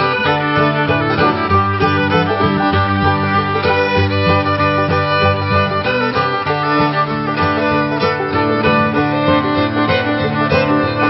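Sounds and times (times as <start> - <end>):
bowed fiddle melody: 0.0 - 11.0
plucked strings: 0.0 - 11.0.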